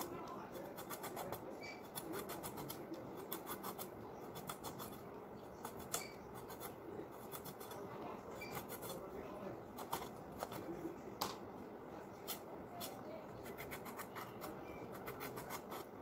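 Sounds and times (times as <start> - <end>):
gourd skin scraped against blade: 0.0 - 9.1, 9.8 - 10.7, 12.2 - 16.0.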